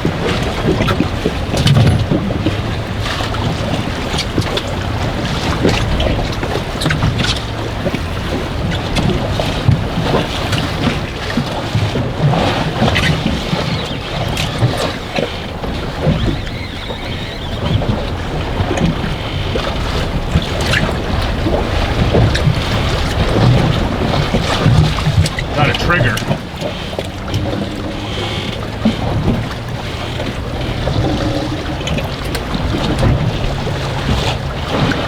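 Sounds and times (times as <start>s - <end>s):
water lapping at hull: 0.0s - 35.0s.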